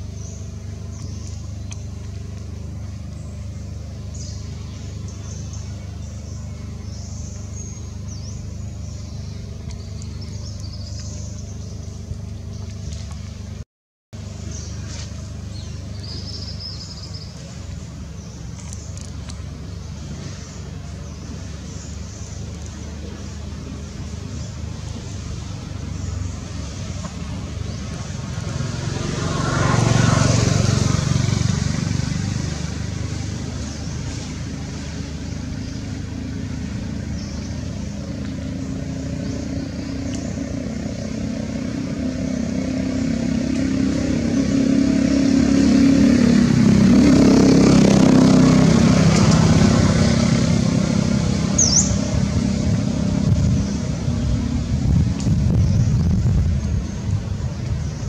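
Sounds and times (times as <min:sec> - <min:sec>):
motor vehicles passing: 0:00.0 - 0:13.6, 0:14.2 - 0:58.0.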